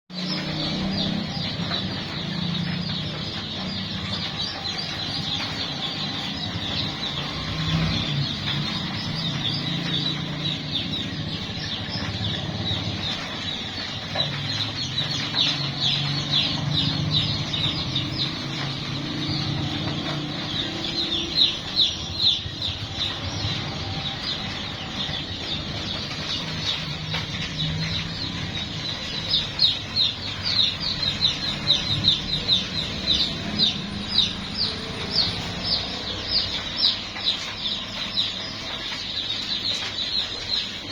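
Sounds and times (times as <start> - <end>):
chicks peeping: 0.1 - 40.9.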